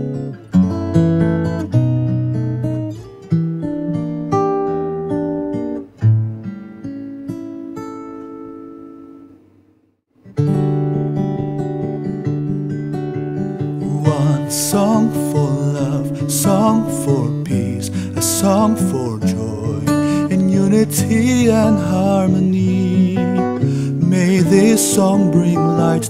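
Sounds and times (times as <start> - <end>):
strummed acoustic guitar chords: 0.0 - 9.4, 10.2 - 26.0.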